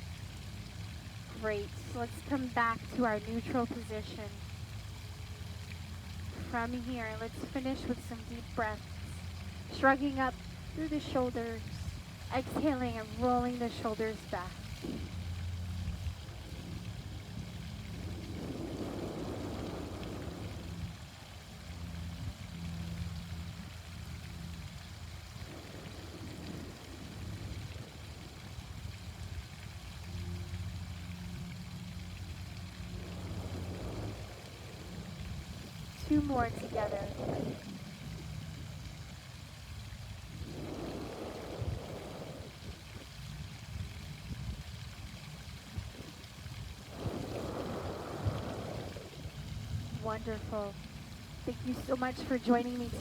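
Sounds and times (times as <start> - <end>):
fountain water splashing: 0.0 - 53.0
low even hum: 0.0 - 53.0.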